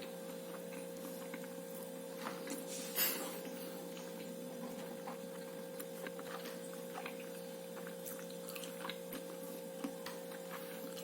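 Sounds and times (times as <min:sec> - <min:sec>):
electrical hum: 0:00.0 - 0:11.0
faint chewing: 0:00.0 - 0:11.0.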